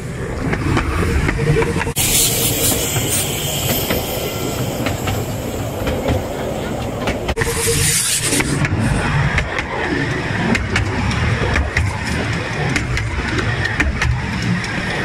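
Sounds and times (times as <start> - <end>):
miniature train rumbling: 0.1 - 15.0.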